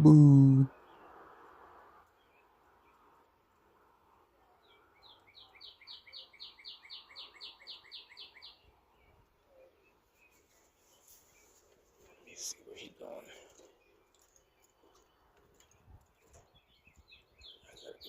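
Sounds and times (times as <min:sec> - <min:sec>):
songbird chirping: 0:00.0 - 0:01.3, 0:02.0 - 0:18.0.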